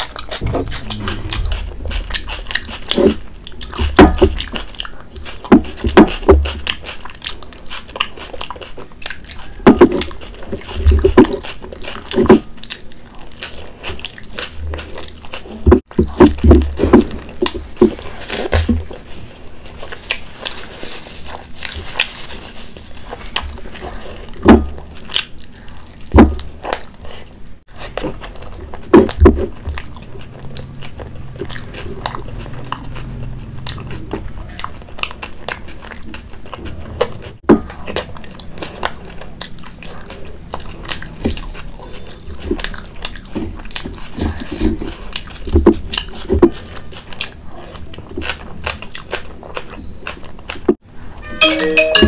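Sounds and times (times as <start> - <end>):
person chewing with lip smacks: 0.0 - 16.2, 22.8 - 50.8.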